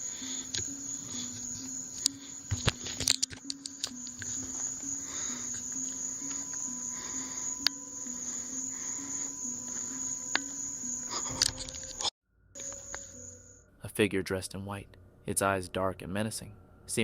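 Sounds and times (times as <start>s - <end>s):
crickets chirping: 0.0s - 13.7s
low background music: 0.0s - 17.0s.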